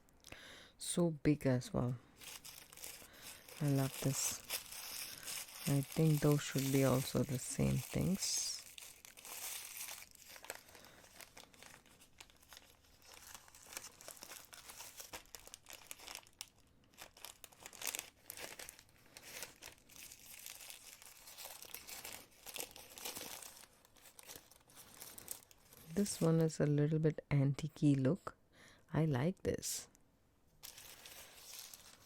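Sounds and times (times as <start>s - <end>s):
packaging crinkling: 2.1s - 26.6s, 30.6s - 32.0s.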